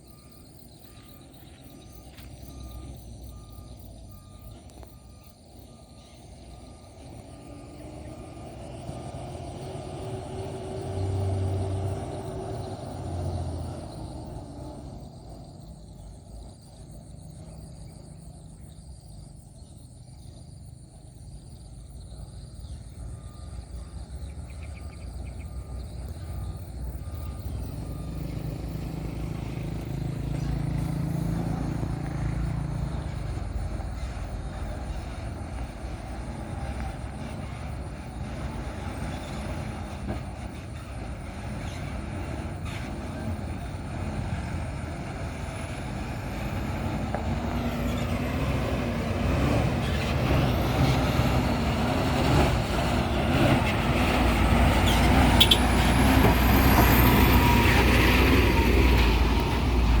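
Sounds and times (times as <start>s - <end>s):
diesel truck engine rumbling: 0.0s - 60.0s.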